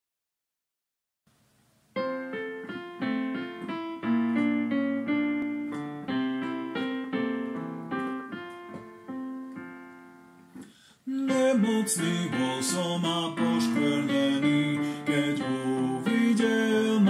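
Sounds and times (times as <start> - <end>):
slow piano chords: 2.0 - 17.0.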